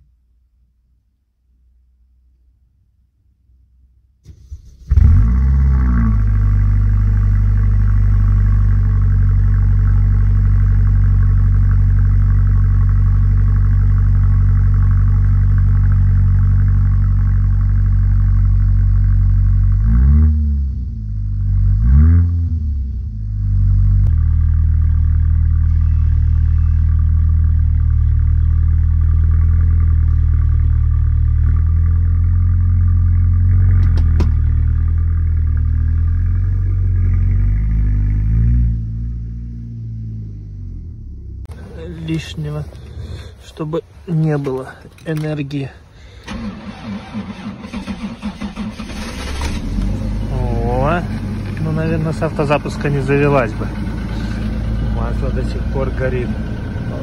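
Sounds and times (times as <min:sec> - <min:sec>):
car engine starting and idling: 0:04.1 - 0:57.0
engine revving: 0:04.3 - 0:43.4, 0:46.2 - 0:57.0.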